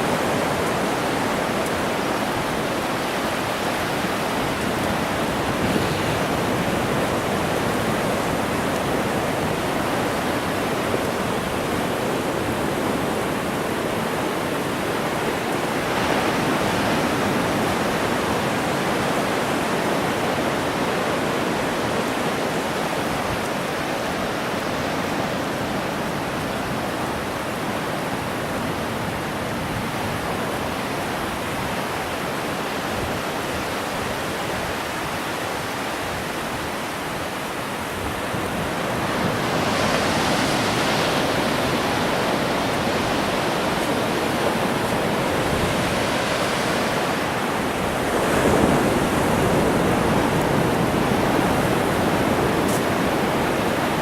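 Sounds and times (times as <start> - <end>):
ocean surf washing on beach: 0.0 - 54.0.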